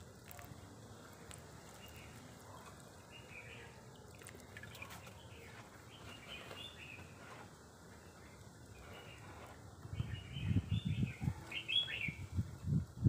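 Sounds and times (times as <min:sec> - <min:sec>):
outdoor background noise: 0:00.0 - 0:13.0
faint bird chirping: 0:01.6 - 0:12.4.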